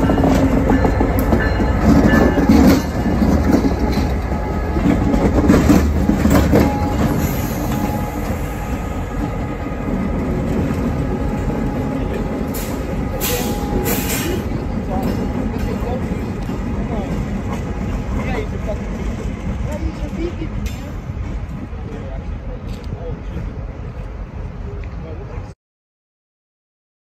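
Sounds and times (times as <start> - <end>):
diesel locomotive engine rumbling: 0.0 - 25.6.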